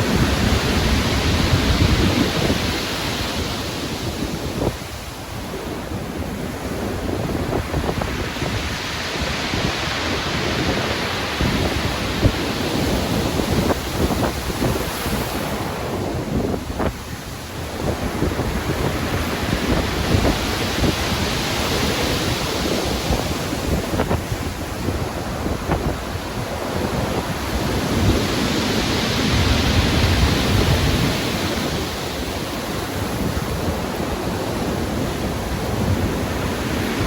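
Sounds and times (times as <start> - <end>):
strong wind: 0.0 - 37.0
waves breaking: 0.0 - 37.0.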